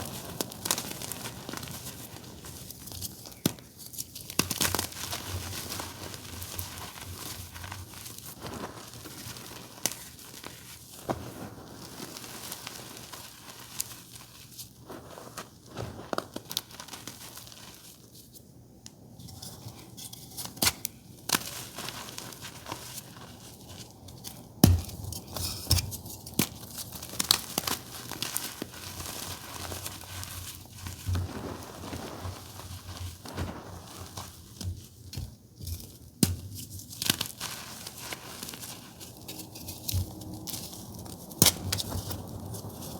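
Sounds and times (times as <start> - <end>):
chalk crunching: 0.0 - 18.2, 20.5 - 35.0, 36.6 - 42.9.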